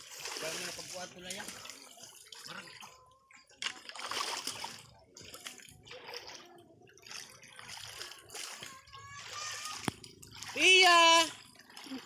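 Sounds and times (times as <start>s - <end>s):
river water splashing and sloshing: 0.0s - 12.0s.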